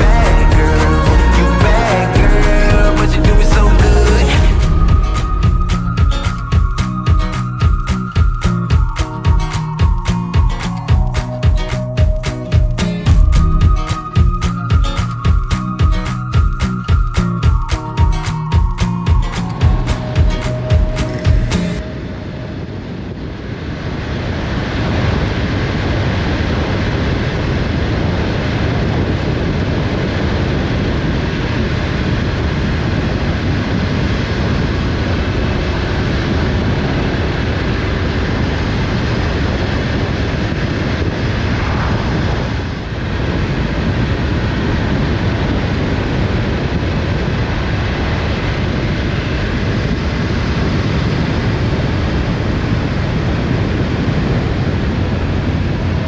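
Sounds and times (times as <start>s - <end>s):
wind rushing over microphone: 4.4s - 56.0s.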